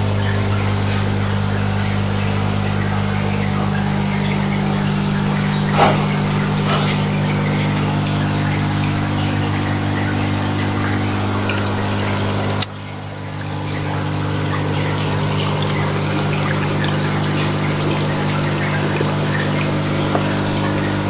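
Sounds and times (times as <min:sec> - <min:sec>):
aquarium pumps humming: 0:00.0 - 0:21.0
water trickling: 0:00.0 - 0:21.0.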